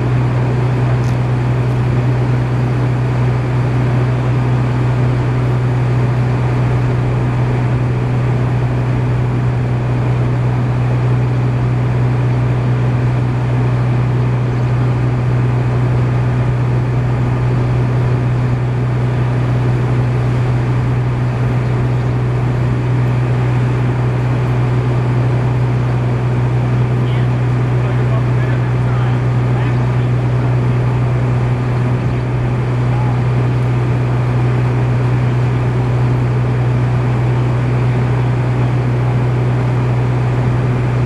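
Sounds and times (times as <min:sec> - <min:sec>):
engine droning: 0:00.0 - 0:41.0.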